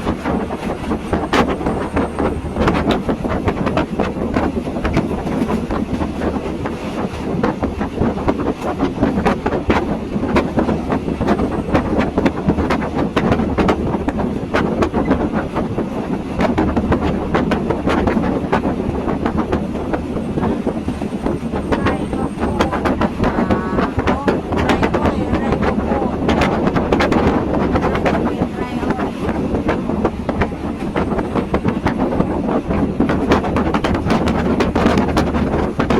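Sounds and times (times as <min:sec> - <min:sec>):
train carriage rumble: 0:00.0 - 0:35.9
wheels clacking and rattling: 0:00.0 - 0:35.9.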